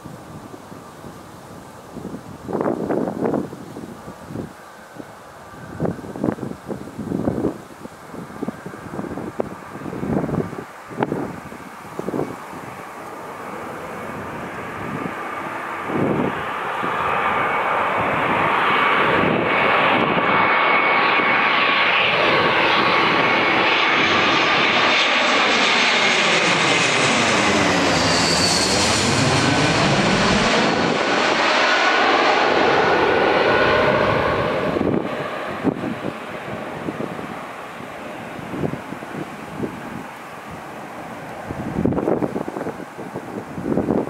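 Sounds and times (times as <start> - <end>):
airliner jet engines roaring overhead: 0.0 - 44.0.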